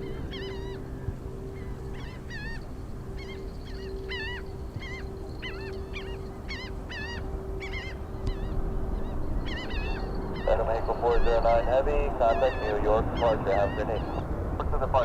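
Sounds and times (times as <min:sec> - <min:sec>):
birds calling: 0:00.0 - 0:15.0
low hum with rumble: 0:00.0 - 0:15.0.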